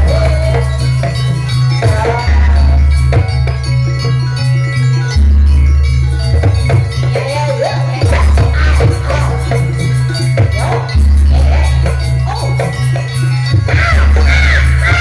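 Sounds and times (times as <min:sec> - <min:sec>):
drum and gong ensemble music: 0:00.0 - 0:15.0.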